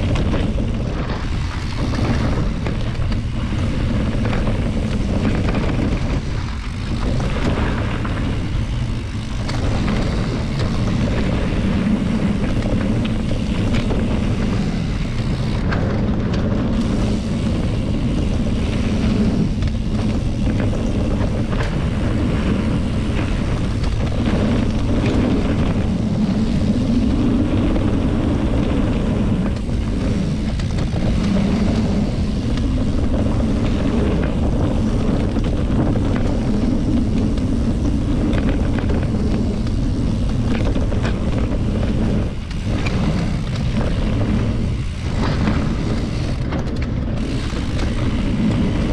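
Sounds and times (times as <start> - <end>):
low engine drone: 0.0 - 48.9.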